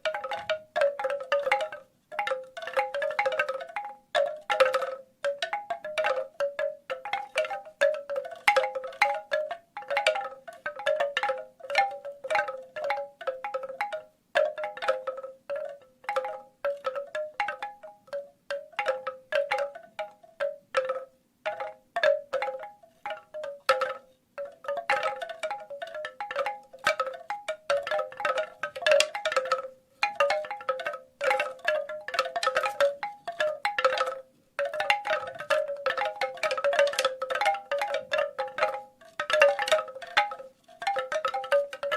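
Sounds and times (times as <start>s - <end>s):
bamboo wind chimes clacking: 0.0s - 41.9s.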